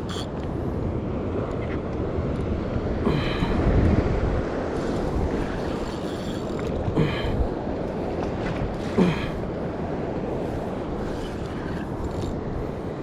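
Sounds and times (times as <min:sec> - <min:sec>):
wind and water noise: 0:00.0 - 0:13.0
wind rumbling on microphone: 0:00.0 - 0:13.0.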